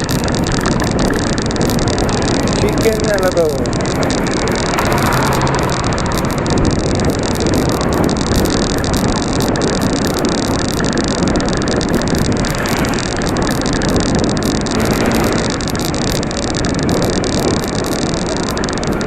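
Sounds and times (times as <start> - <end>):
road noise: 0.0 - 19.0
traffic passing: 0.0 - 19.0
wind buffeting microphone: 0.0 - 19.0.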